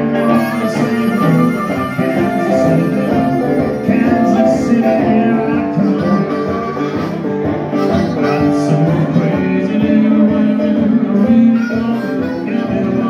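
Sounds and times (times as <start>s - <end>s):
acoustic guitar: 0.0s - 13.0s
electric guitar: 0.0s - 13.0s
harmonica: 0.0s - 13.0s.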